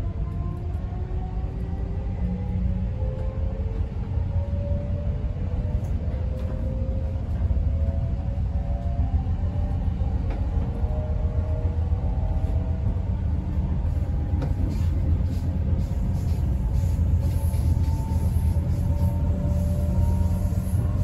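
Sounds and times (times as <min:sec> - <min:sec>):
train rumble inside carriage: 0:00.0 - 0:21.0.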